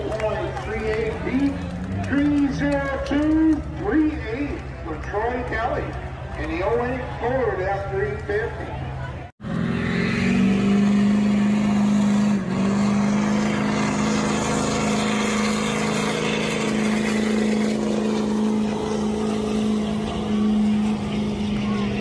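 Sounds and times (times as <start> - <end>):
pulling vehicle engine revving high: 0.0 - 22.0.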